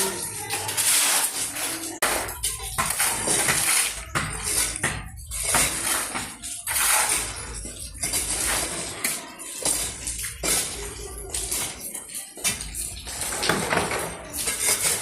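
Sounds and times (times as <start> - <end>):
metal shovels scraping concrete: 0.0 - 15.0.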